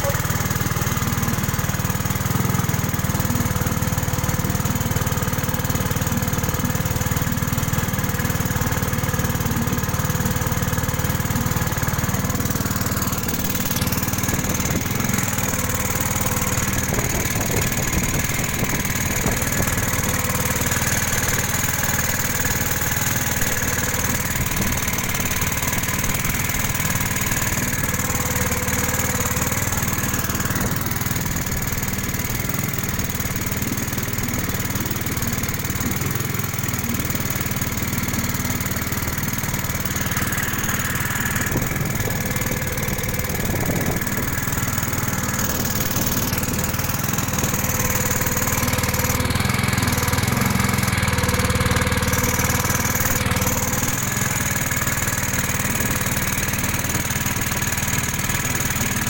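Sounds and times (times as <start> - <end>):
boat engine running: 0.0 - 59.0
water rushing along hull: 0.0 - 59.0.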